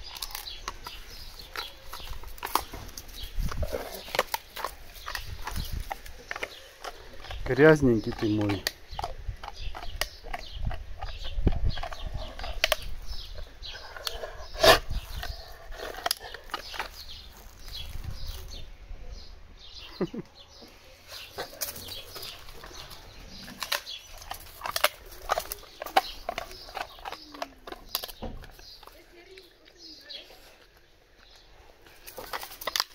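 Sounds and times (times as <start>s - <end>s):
dog chewing cartilage crunches: 0.0s - 18.6s, 21.1s - 32.9s.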